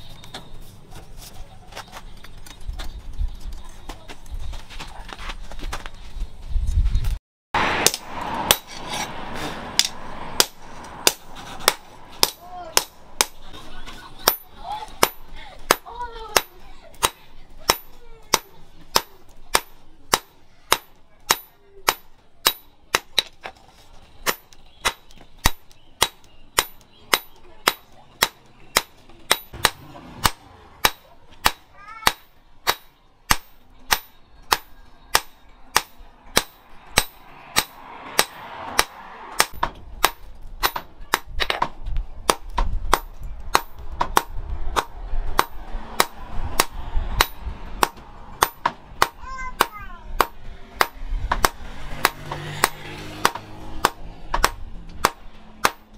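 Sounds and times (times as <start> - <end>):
hammer striking metal on anvil: 7.6 - 13.4, 14.2 - 23.4, 24.2 - 55.9.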